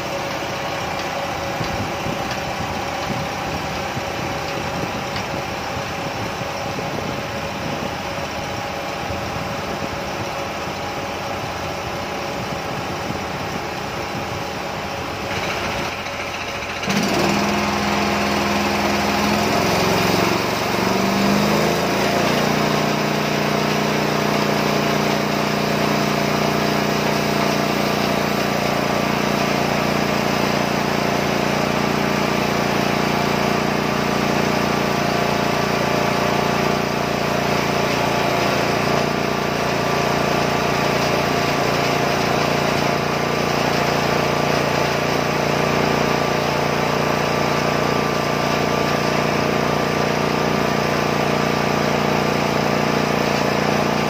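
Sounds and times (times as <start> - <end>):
petrol engine running: 0.0 - 54.0.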